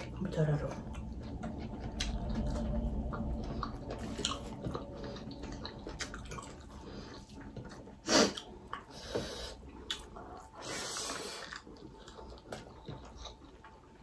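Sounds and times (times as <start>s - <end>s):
chewing: 0.8s - 14.0s.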